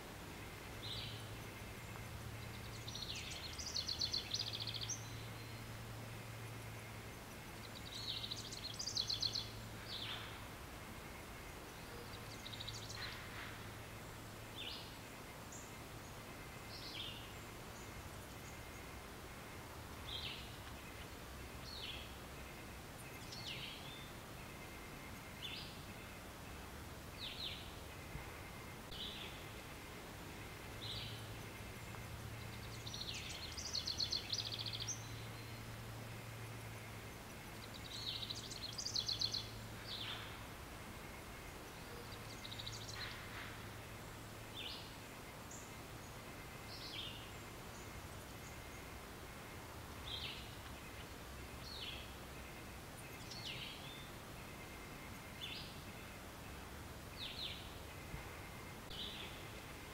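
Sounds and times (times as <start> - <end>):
outdoor background hiss: 0.0 - 59.9
birds chirping and trilling: 0.4 - 59.9.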